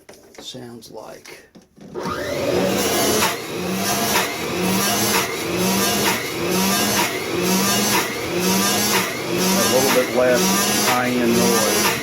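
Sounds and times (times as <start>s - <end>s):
washing machine motor whining rhythmically: 2.0s - 12.0s.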